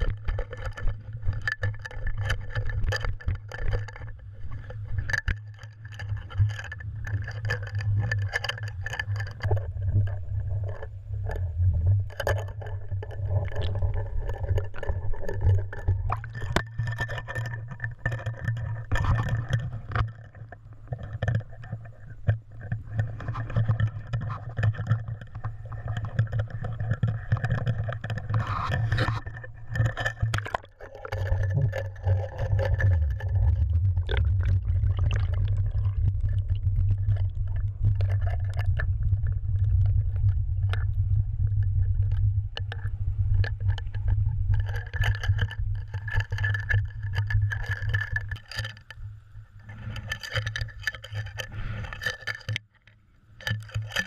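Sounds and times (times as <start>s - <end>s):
muffled underwater rumble: 0.0s - 54.0s.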